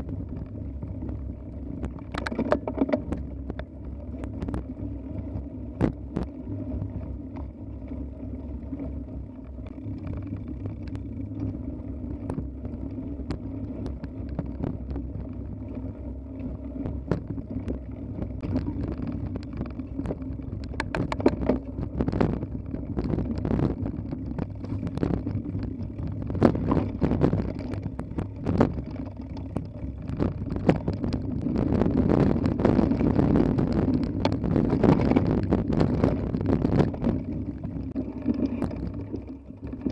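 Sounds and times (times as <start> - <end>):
bike knocking and rattling: 0.0 - 39.9
bike tyres rumbling: 0.0 - 39.9
wind on microphone: 0.0 - 39.9.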